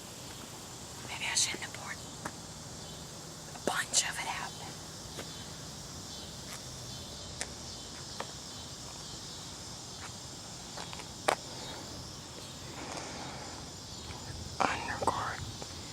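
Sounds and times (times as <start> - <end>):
high-pitched chirring hiss: 0.0 - 15.9.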